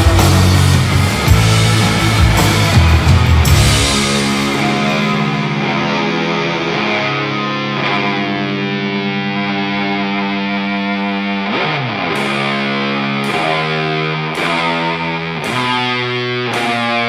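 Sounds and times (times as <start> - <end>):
distorted electric guitar chords: 0.0 - 17.0.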